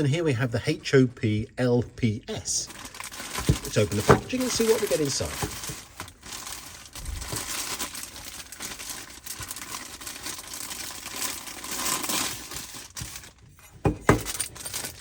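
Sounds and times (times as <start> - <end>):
packaging crinkling and rustling: 2.6 - 15.0.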